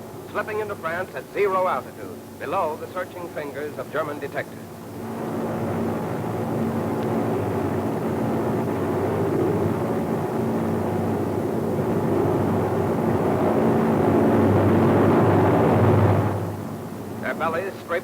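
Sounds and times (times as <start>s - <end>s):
aircraft engines droning: 0.0s - 18.0s.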